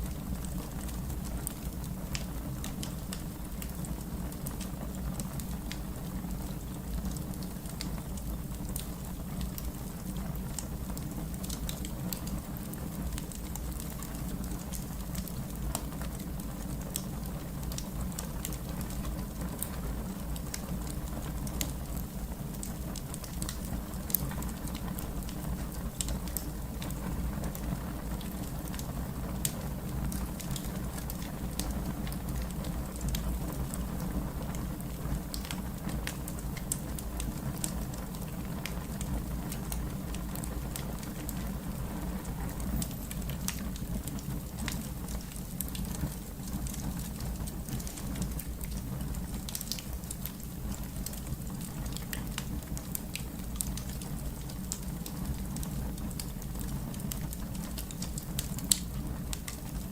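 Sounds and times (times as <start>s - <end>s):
fire crackling: 0.0s - 59.9s
fire popping and snapping: 0.0s - 59.9s
flames rumbling: 0.0s - 59.9s.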